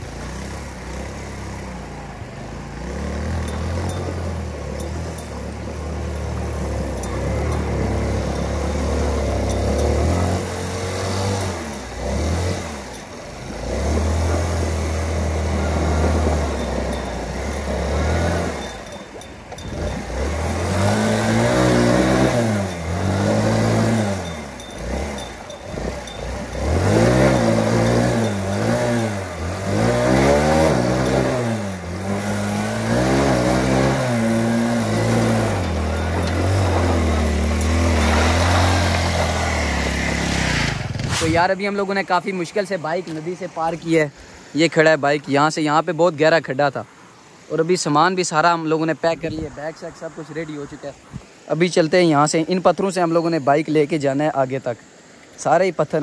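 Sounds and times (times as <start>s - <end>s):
motorcycle engine idling and revving: 0.0s - 46.0s.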